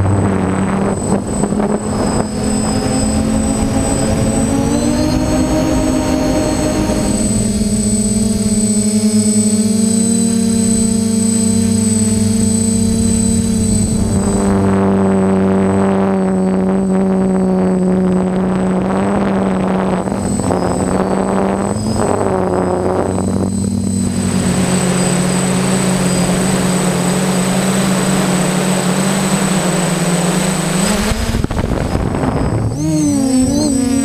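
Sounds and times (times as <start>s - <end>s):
rushing wind noise: 0.0s - 8.8s, 12.0s - 34.0s
drone motors whining: 0.0s - 34.0s.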